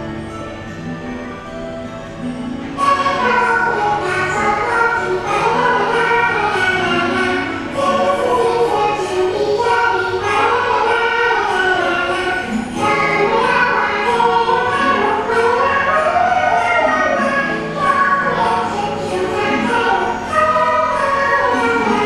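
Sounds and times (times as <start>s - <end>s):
choir singing to music: 2.2s - 22.0s.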